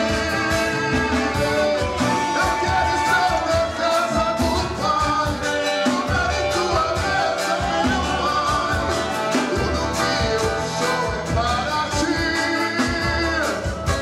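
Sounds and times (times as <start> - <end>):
live band playing: 0.0 - 14.0
person singing lead melody: 0.0 - 14.0
steady drum beat: 0.0 - 14.0.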